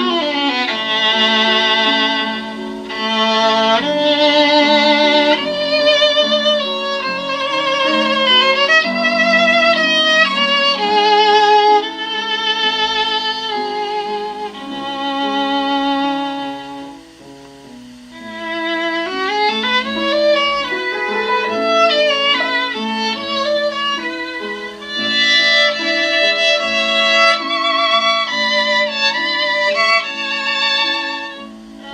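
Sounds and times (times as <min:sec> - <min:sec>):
violin music through loudspeakers: 0:00.0 - 0:31.9.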